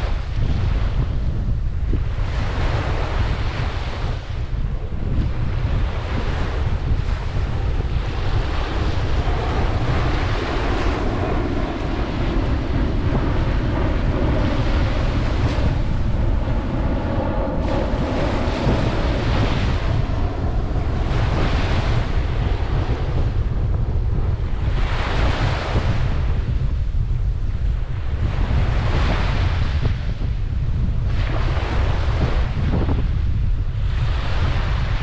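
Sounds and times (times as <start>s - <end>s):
wind on microphone: 0.0s - 35.0s
ocean waves breaking: 1.9s - 26.6s, 27.7s - 30.1s, 31.1s - 33.0s, 33.8s - 35.0s.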